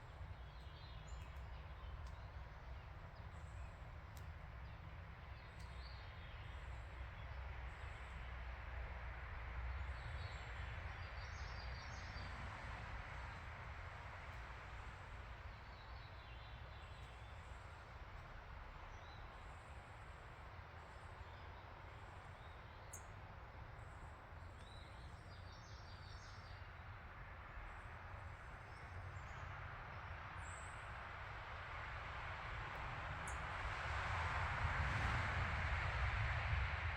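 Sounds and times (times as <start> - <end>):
songbirds chirping: 0.0 - 8.5, 9.6 - 31.0.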